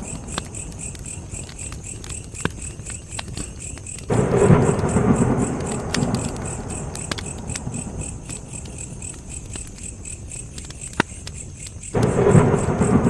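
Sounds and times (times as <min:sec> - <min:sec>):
campfire crackling and popping: 0:00.0 - 0:13.0
cricket chirping: 0:00.0 - 0:13.0.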